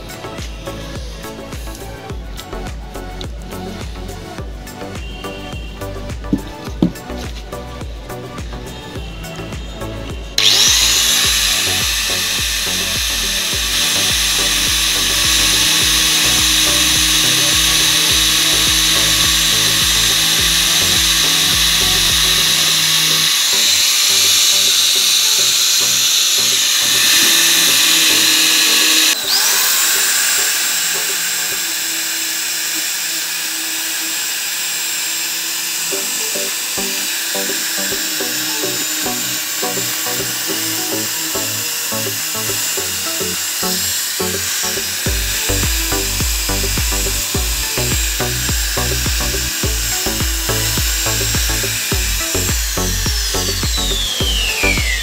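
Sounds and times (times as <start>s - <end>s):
background music: 0.0s - 33.9s, 35.0s - 55.0s
angle grinder cutting plastic: 0.0s - 55.0s.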